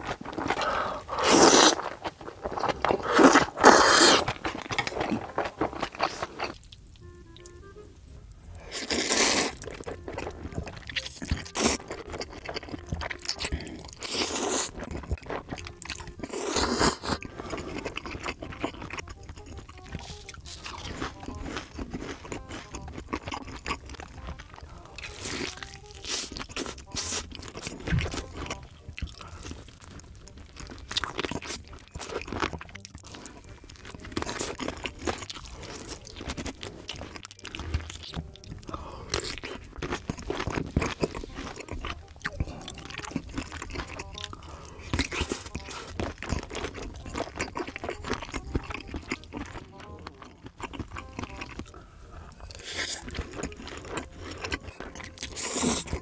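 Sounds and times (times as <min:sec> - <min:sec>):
crunchy bites and chewing: 0:00.0 - 0:07.6, 0:08.5 - 0:56.0.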